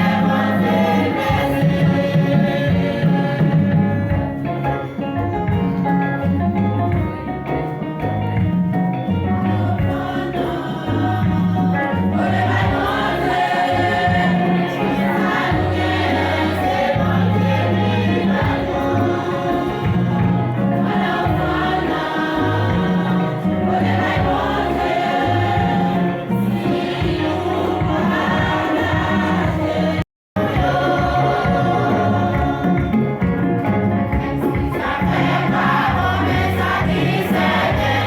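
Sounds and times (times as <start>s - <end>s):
choir singing: 0.0s - 4.4s, 9.5s - 33.2s, 34.2s - 38.0s
instrumental accompaniment with bass: 0.0s - 38.0s.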